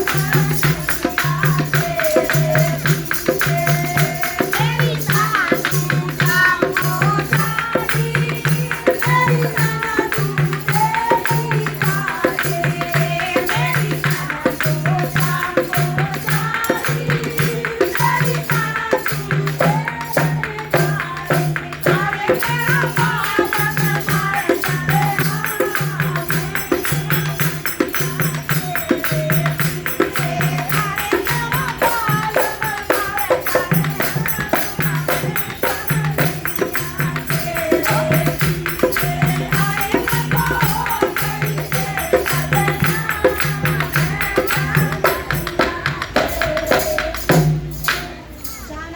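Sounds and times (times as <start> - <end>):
jingling percussion beat: 0.0 - 48.9.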